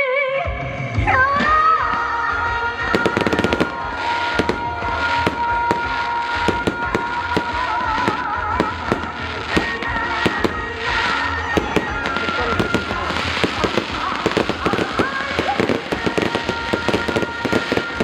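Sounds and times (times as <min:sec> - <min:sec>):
music with sustained notes: 0:00.7 - 0:18.0
fireworks bangs and crackles: 0:01.4 - 0:18.0.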